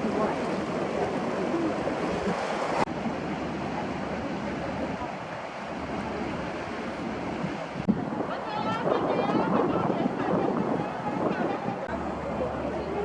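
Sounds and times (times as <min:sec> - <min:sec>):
faint voices: 0:00.0 - 0:13.0
wind on microphone: 0:00.0 - 0:13.0.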